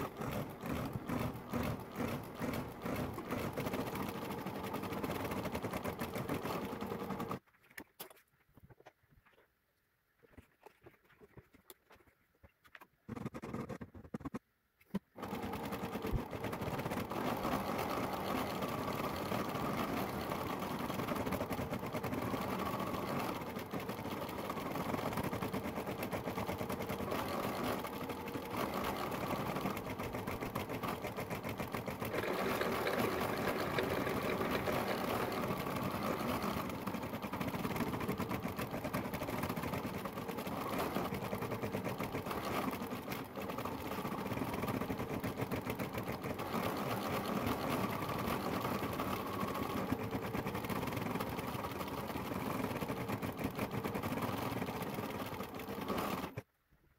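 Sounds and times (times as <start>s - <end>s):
embroidery machine stitching: 0.0s - 7.4s, 13.1s - 56.5s.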